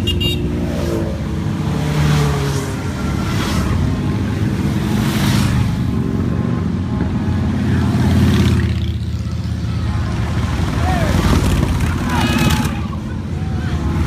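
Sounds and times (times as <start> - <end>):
motorcycles riding past: 0.2 - 14.0.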